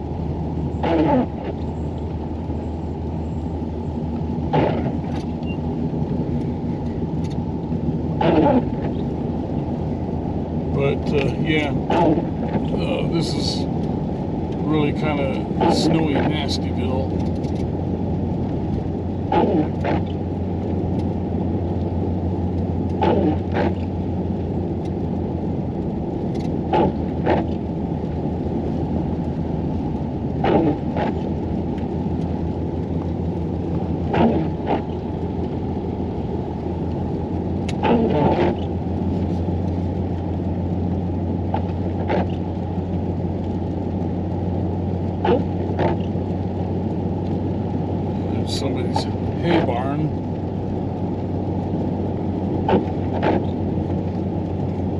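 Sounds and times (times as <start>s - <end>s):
engine and road drone: 0.0s - 54.9s
windshield wipers swishing: 0.2s - 54.9s.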